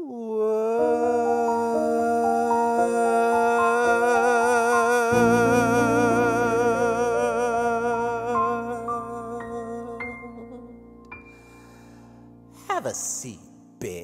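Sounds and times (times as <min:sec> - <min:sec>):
person singing with vibrato: 0:00.0 - 0:11.4.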